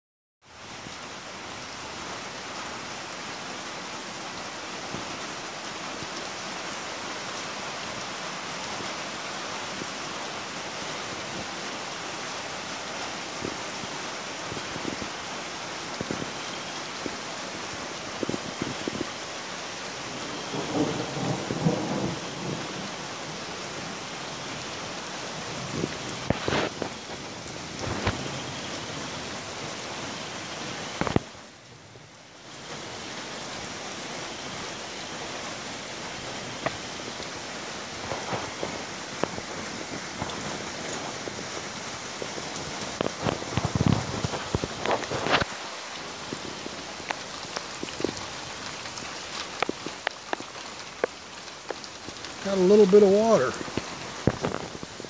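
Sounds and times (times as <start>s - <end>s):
heavy rain on standing water: 0.4s - 55.0s.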